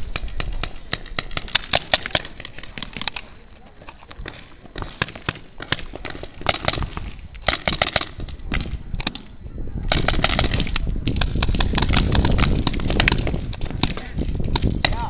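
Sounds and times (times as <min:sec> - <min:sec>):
paintball markers firing: 0:00.0 - 0:09.3, 0:09.9 - 0:15.0.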